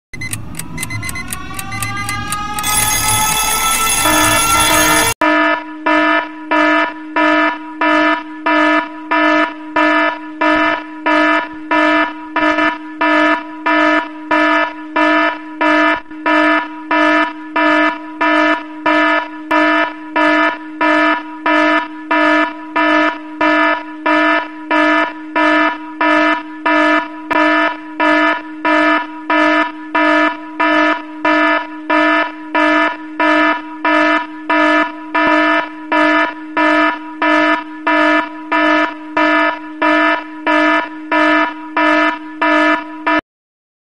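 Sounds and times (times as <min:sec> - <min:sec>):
electronic alarm buzzing: 0:00.1 - 0:43.2.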